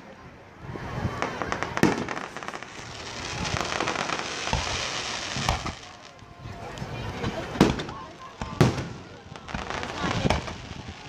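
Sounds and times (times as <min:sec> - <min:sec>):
fireworks crackling: 0:00.9 - 0:11.0
fireworks bangs: 0:01.1 - 0:11.0.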